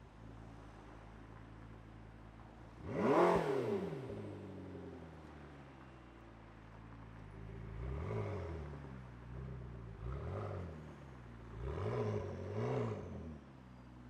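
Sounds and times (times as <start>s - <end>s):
sports car engine idling: 0.0s - 14.0s.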